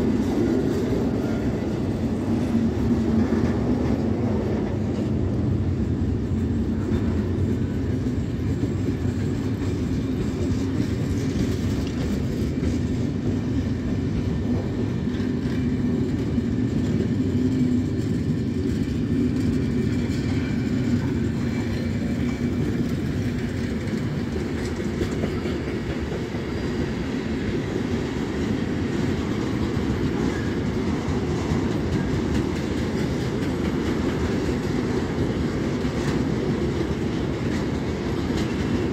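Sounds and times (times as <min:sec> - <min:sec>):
steel wheels rumbling on rails: 0:00.0 - 0:38.9.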